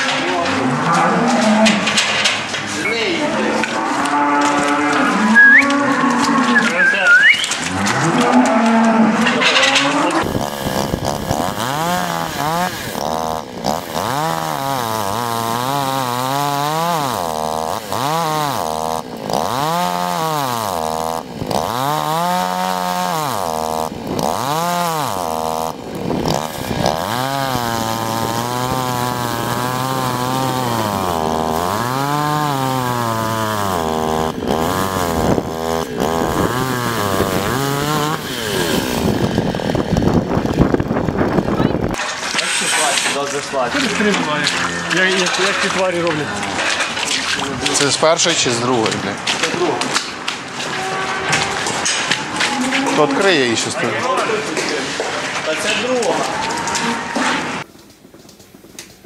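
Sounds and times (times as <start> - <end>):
chainsaw revving: 7.5 - 57.7.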